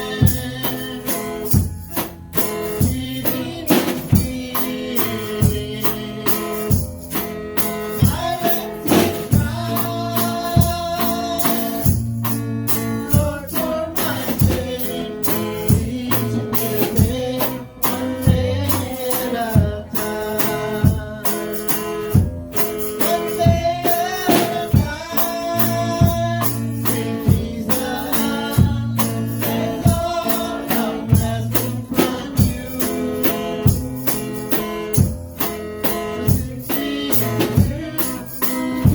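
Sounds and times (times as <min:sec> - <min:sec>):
person singing: 0:00.0 - 0:06.8, 0:08.0 - 0:12.0, 0:12.9 - 0:21.8, 0:22.9 - 0:34.1, 0:36.1 - 0:38.9
bass: 0:00.0 - 0:38.9
drum beat: 0:00.0 - 0:38.9
tambourine: 0:00.0 - 0:38.9.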